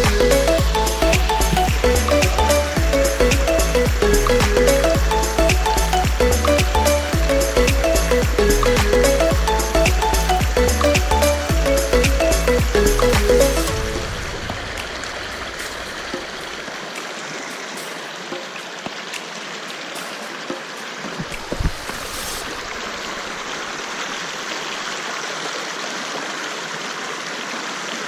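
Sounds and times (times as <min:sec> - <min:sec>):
stream water running over rocks: 0:00.0 - 0:28.0.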